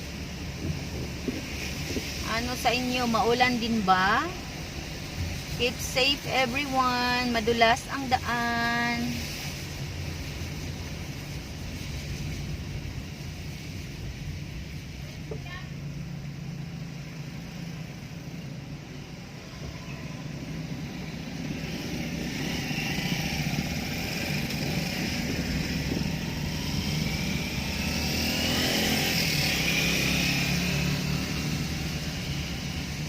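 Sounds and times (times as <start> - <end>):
low engine hum: 0.0 - 33.0
tyres hissing on wet pavement: 0.0 - 33.0.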